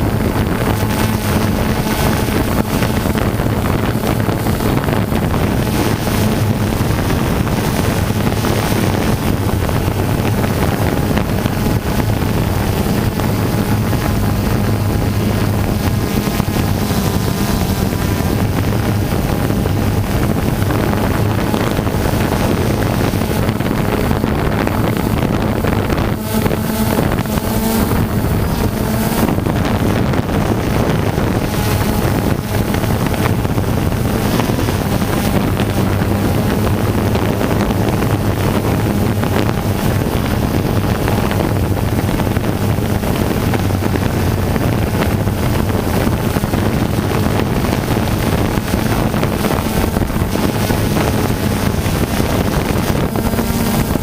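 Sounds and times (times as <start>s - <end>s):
aircraft engine hum: 0.0s - 54.0s
wind rushing over microphone: 0.0s - 54.0s.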